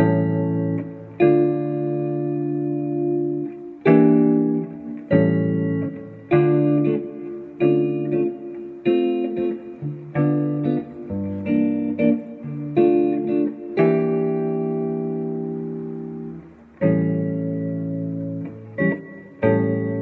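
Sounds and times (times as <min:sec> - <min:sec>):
electric guitar jazz chords: 0:00.0 - 0:20.0.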